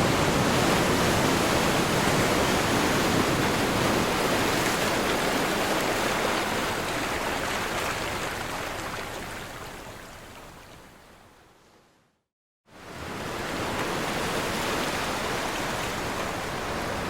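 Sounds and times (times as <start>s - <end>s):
ocean waves crashing on shore: 0.0s - 9.7s, 12.7s - 17.0s.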